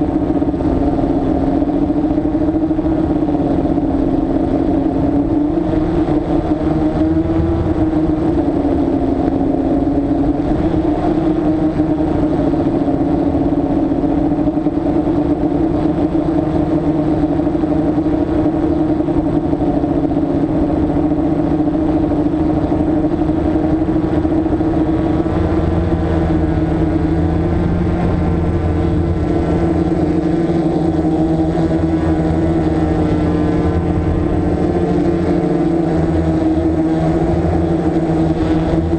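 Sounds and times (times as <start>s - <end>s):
deeper hum: 0.0s - 38.9s
drone propellers whirring: 0.0s - 38.9s.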